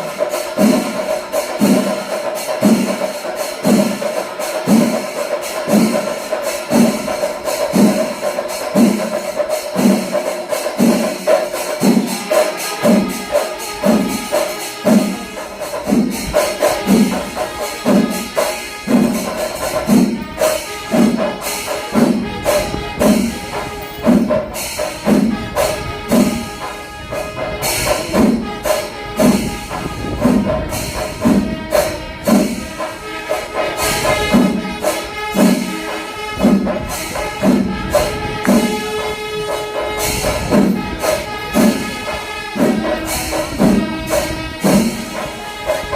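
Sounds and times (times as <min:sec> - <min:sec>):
cymbals jingling: 0:00.0 - 0:45.9
drums beating: 0:00.0 - 0:45.9.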